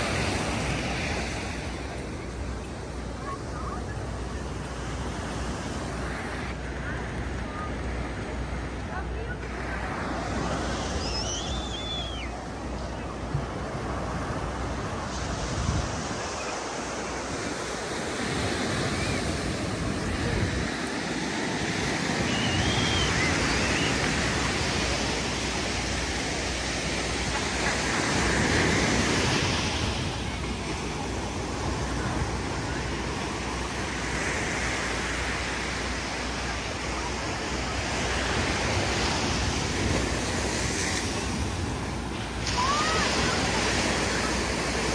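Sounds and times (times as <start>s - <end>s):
ocean surf breaking on rocks: 0.0s - 44.9s.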